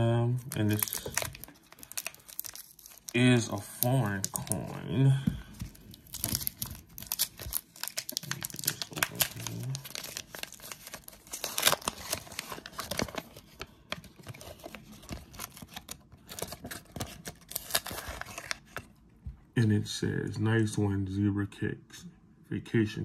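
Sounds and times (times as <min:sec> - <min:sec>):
paper crinkling and tearing: 0:00.0 - 0:18.8.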